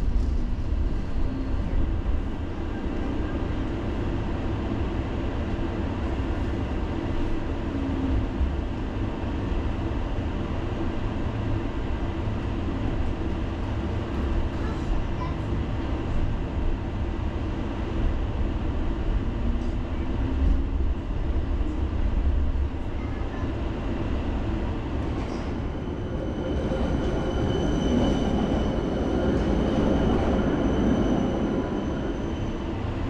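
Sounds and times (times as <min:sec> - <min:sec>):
tram rumbling on rails: 0:00.0 - 0:33.0.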